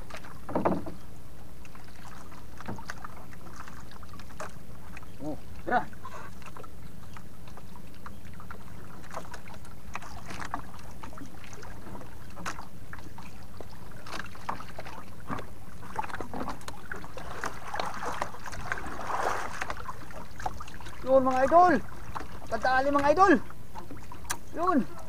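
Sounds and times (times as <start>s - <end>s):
water splashing against boat hull: 0.0s - 1.0s, 1.6s - 25.0s.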